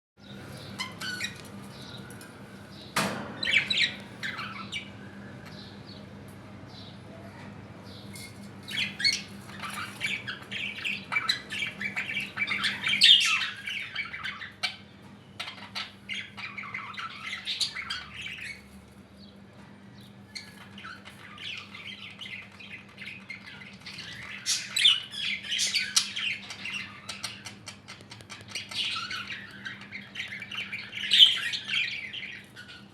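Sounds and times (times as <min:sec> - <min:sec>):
parrots squawking and chirping: 0:00.5 - 0:02.2, 0:03.4 - 0:04.9, 0:08.2 - 0:18.8, 0:20.3 - 0:32.9.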